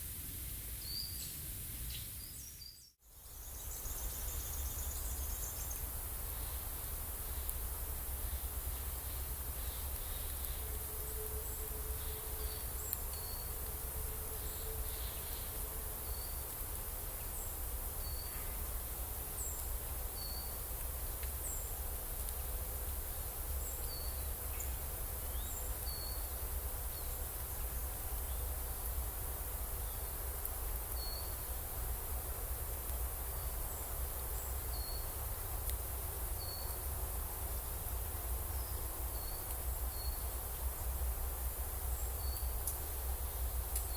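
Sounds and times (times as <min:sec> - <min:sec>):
constant high hiss: 0:00.0 - 0:43.9.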